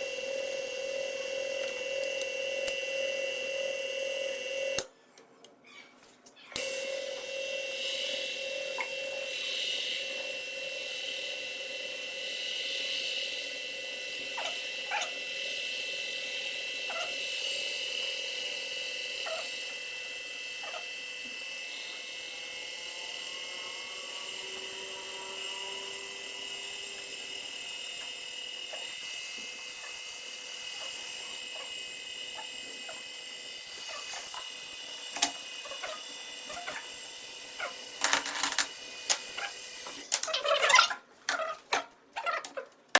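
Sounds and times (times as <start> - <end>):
motor high whine: 0.0 - 4.8, 6.6 - 40.1.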